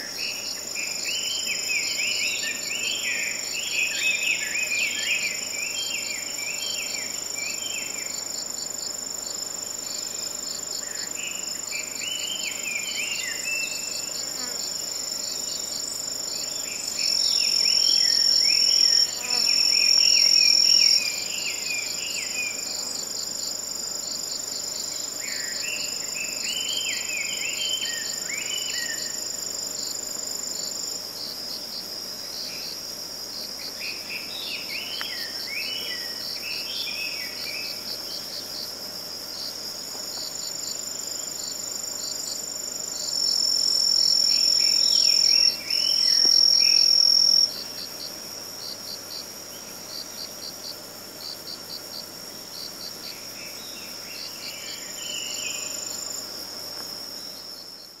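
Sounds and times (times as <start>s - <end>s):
insects trilling: 0.0s - 58.0s
pulsing cricket chirp: 0.0s - 58.0s.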